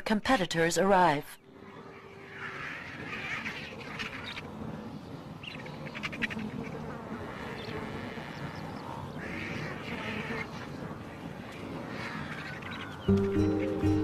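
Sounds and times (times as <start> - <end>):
vultures squawking and hissing: 1.5 - 13.8.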